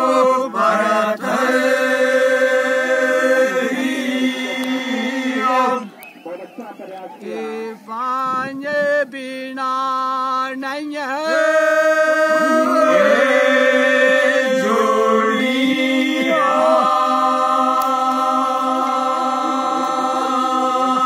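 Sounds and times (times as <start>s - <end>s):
male voices singing unaccompanied: 0.0s - 6.0s, 7.2s - 21.0s.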